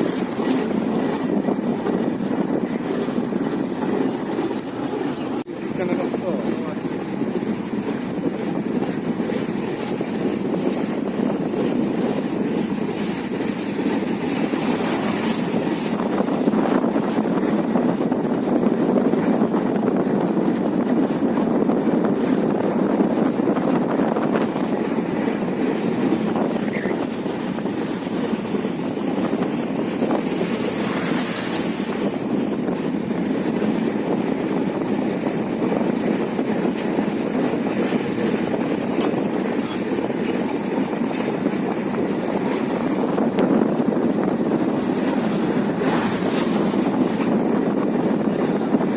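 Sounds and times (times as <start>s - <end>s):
passenger train rumbling: 0.0s - 48.9s.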